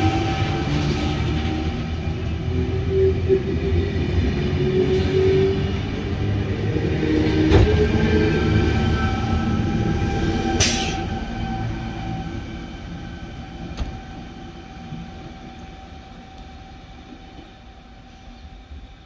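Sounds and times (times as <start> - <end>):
train wheels rumbling: 0.0 - 19.0
train whine: 0.0 - 19.0.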